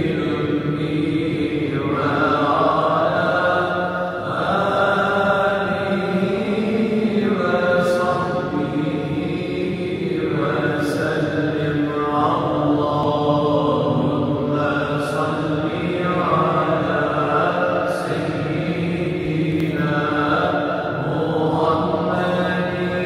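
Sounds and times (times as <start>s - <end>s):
voices chanting: 0.0s - 23.0s.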